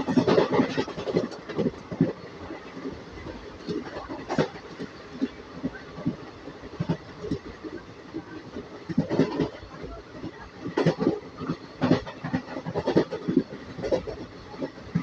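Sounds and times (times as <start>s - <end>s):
train running rumble: 0.0s - 15.0s
train wheels clattering over joints: 0.0s - 15.0s.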